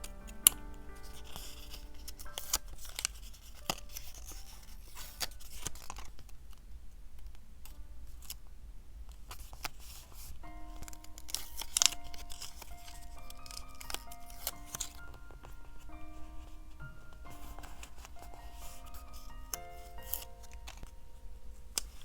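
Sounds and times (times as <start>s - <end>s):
soft background music: 0.0s - 6.1s, 9.3s - 22.0s
paper snipping and rustling: 0.0s - 6.3s, 9.2s - 21.0s, 21.6s - 22.0s.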